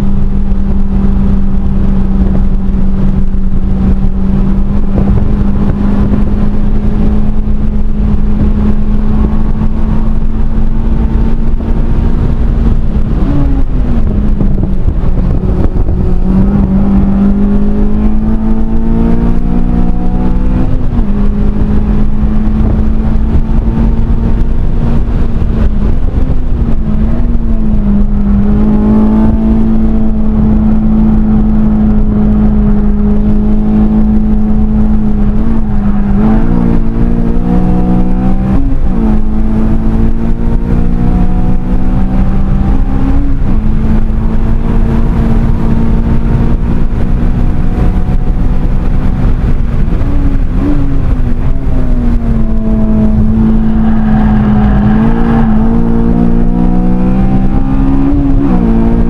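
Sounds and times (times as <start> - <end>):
car engine at high revs: 0.0 - 59.0
road and wind noise: 0.0 - 59.0.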